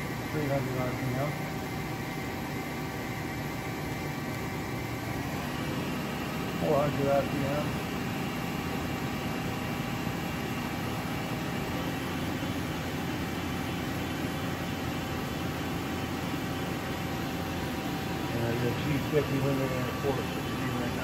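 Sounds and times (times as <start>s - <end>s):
lathe machine whir: 0.0s - 21.0s.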